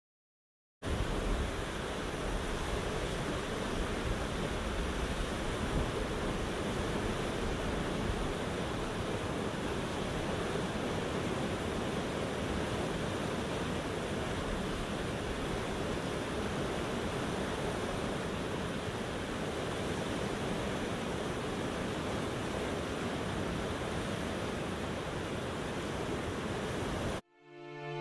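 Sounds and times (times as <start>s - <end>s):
river water rushing: 0.9s - 28.0s.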